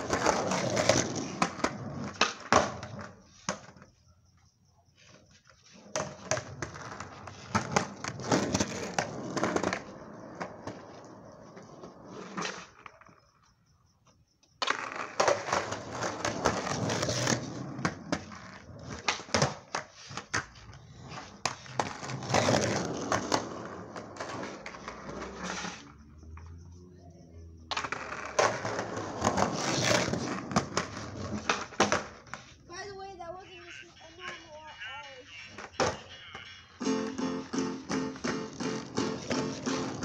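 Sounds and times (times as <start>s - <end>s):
skateboard clicks and knocks: 0.0s - 4.0s, 5.0s - 26.6s, 27.6s - 32.6s, 33.4s - 40.0s
skateboard wheels rolling on pavement: 0.0s - 40.0s.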